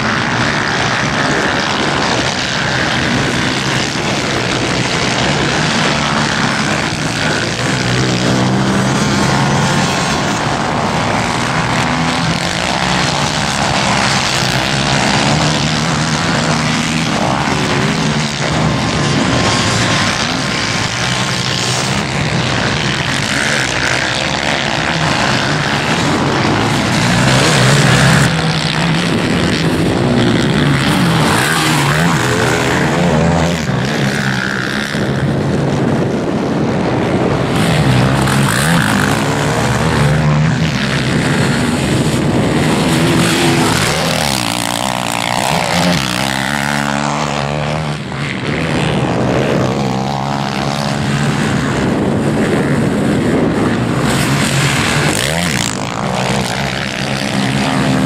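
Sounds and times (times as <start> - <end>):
quad engines revving: 0.0 - 58.0.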